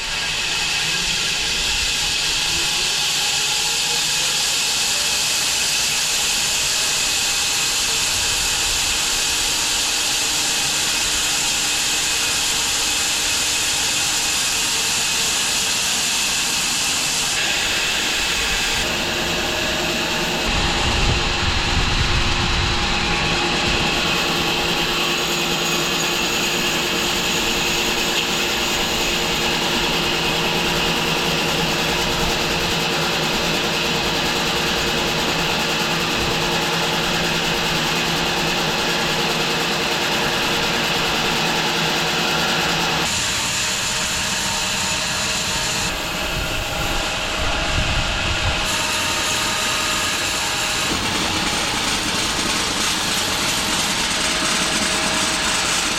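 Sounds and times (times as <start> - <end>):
bandsaw blade sawing log: 0.0 - 20.7, 23.0 - 47.4, 48.6 - 55.9.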